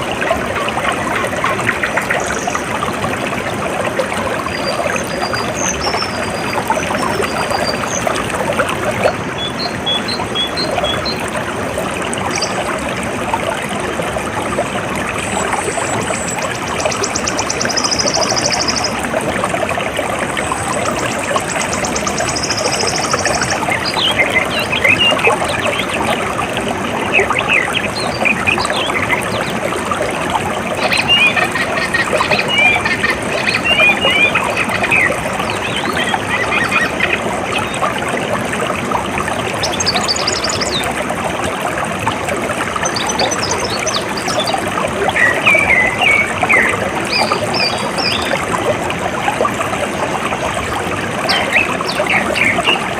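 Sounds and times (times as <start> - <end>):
flowing water rushing: 0.0 - 52.9.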